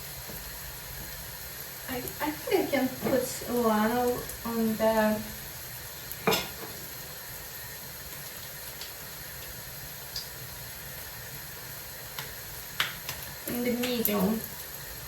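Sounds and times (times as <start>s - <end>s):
pancakes sizzling in a pan: 0.0s - 15.0s.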